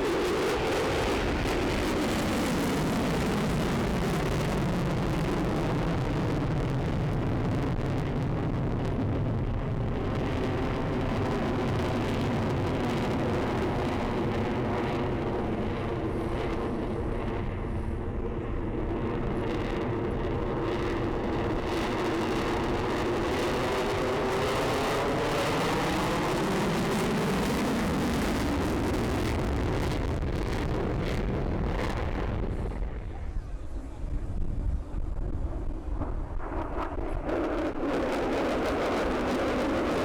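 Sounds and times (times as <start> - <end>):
jet engine roaring past: 0.0 - 40.0.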